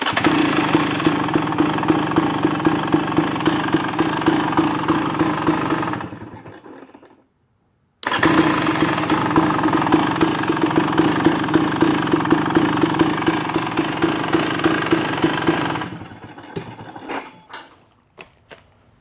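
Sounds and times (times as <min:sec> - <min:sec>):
two-stroke engine idling: 0:00.0 - 0:07.1, 0:08.0 - 0:17.6.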